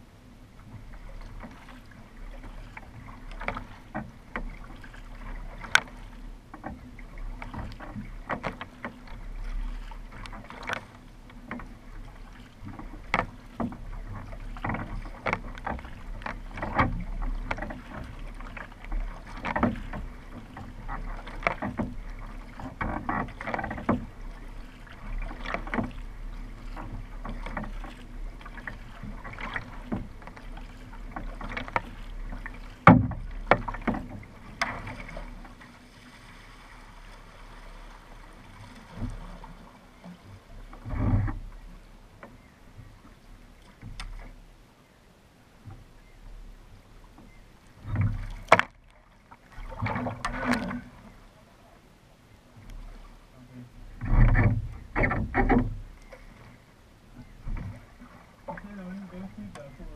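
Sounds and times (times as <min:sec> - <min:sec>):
paddle splashing in water: 0:00.0 - 0:59.9.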